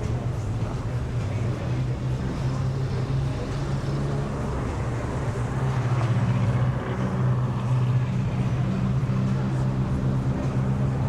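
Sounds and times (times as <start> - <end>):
constant hum: 0.0 - 11.0
road noise: 0.0 - 11.0
vehicle engine drone: 0.0 - 11.0.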